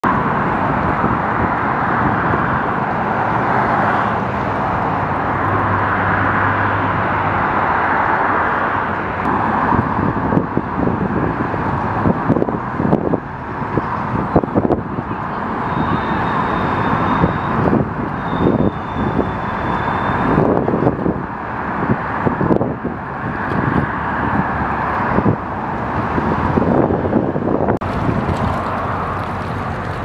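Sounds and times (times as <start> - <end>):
outdoor rushing noise: 0.0 - 30.0.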